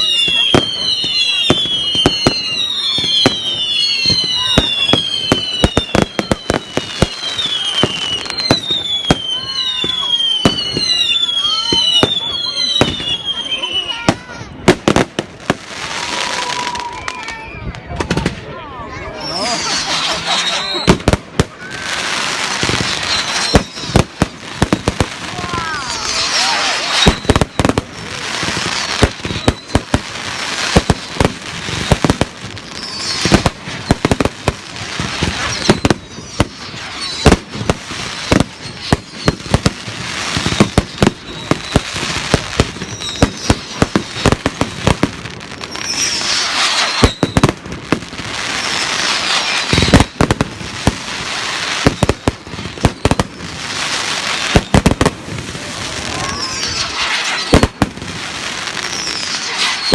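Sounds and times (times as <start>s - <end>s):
fireworks crackling and hissing: 0.0s - 59.9s
fireworks exploding: 0.0s - 59.9s
fireworks whistles: 0.0s - 59.9s.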